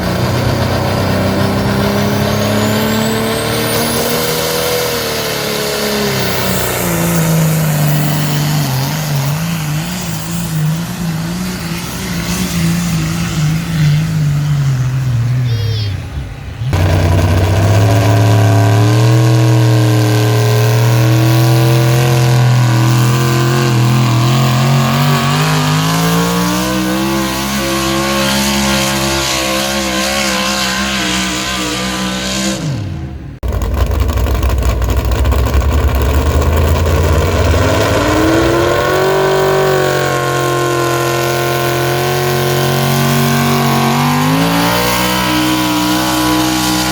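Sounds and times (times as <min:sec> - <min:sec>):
vehicle engine at high revs: 0:00.0 - 0:15.6, 0:16.5 - 0:46.9.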